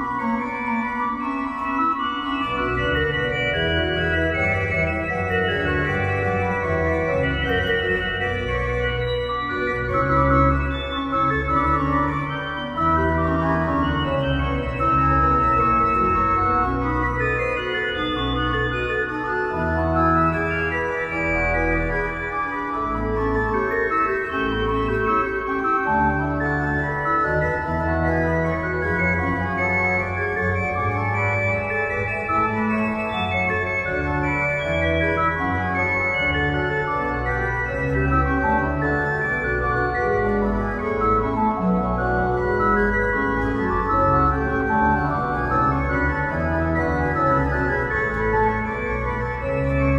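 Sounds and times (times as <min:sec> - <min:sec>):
church organ playing chords: 0:00.0 - 0:49.9.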